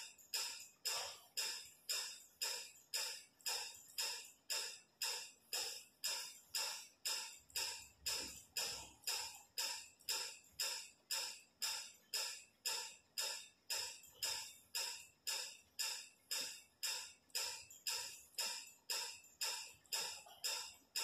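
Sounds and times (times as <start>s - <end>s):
sharp bright percussive strokes: 0.0s - 21.0s.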